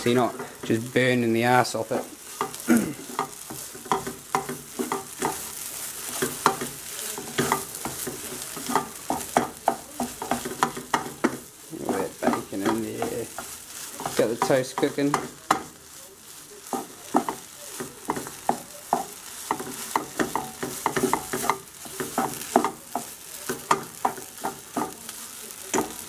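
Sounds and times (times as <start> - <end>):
food sizzling in frying pan: 0.0 - 26.0
spatula scraping pan: 0.0 - 26.0.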